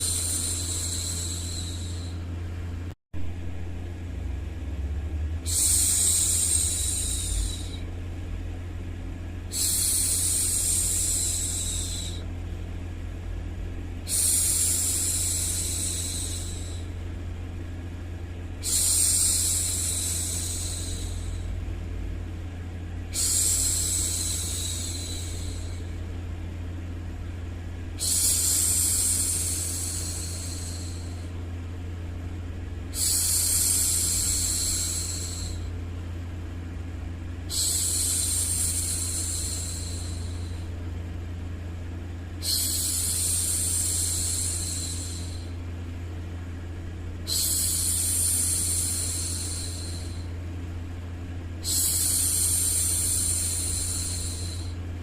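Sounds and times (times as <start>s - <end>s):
low white noise hum: 0.0s - 55.0s.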